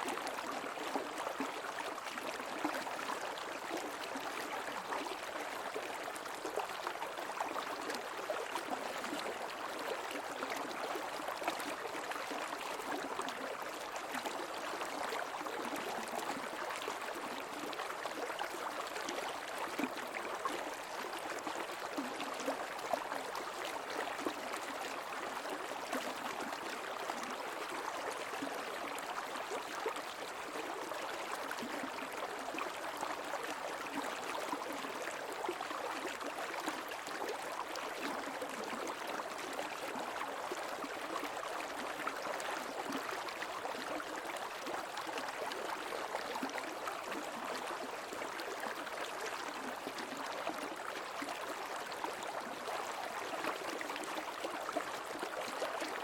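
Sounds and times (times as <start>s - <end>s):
creek water over rocks: 0.0s - 56.0s.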